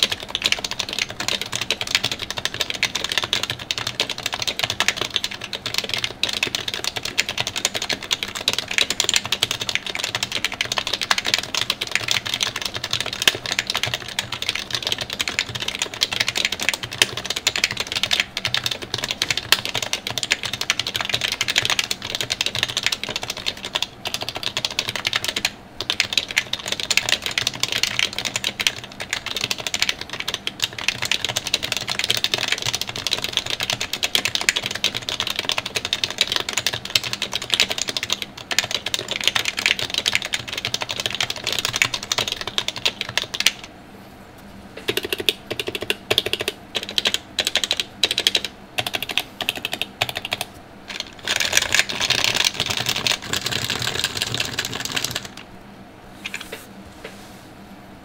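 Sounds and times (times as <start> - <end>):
fast typing on keyboard: 0.0 - 43.7, 44.8 - 55.4.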